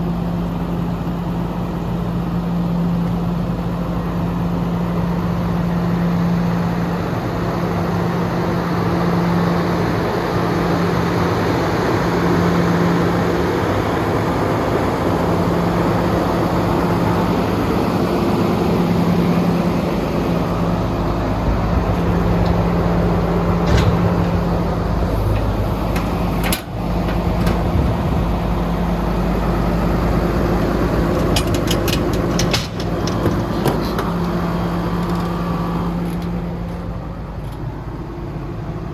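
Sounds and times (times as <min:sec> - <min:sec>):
diesel truck engine droning: 0:00.0 - 0:38.9.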